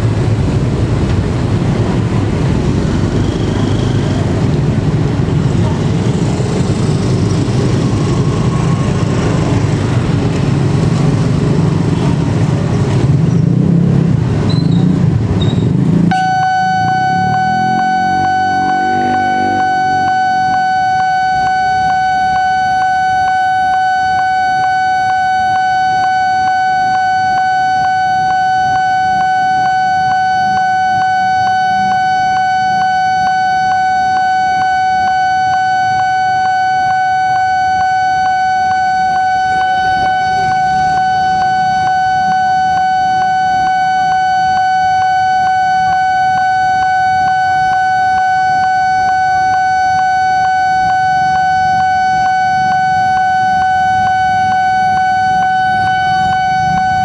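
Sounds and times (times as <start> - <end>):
level crossing warning alarm: 0.0 - 57.0
road traffic passing: 0.0 - 57.0.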